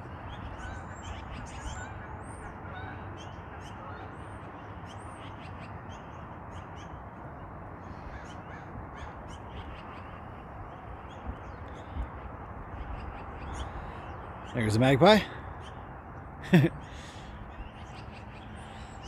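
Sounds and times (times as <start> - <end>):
magpies calling: 0.0 - 7.1, 7.8 - 19.0.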